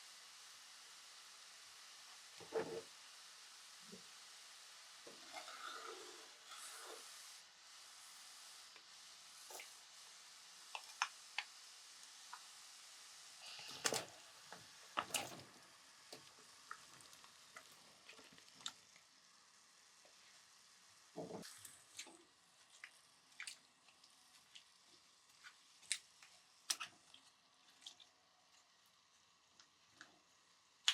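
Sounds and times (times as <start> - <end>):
faint sizzle: 0.0 - 30.9.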